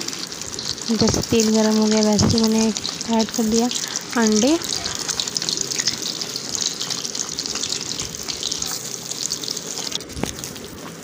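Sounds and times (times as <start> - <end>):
egg sizzling in hot oil: 0.0 - 11.0.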